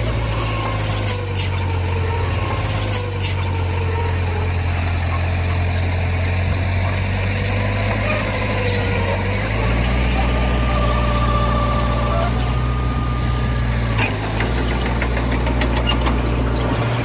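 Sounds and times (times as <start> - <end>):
heavy machinery diesel engine: 0.0 - 17.0.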